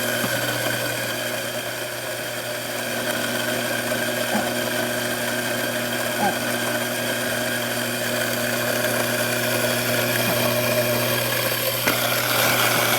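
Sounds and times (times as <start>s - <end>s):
electric coffee grinder running: 0.0s - 12.9s.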